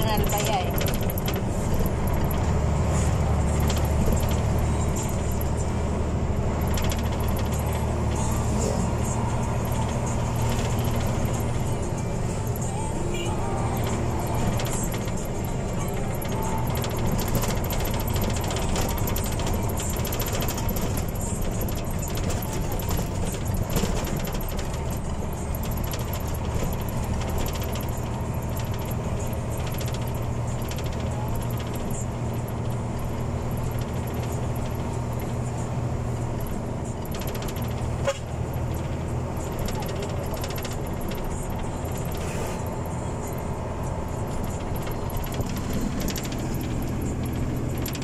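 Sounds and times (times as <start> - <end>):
rattling and jingling: 0.0 - 48.0
vehicle engine and road drone: 0.0 - 48.0.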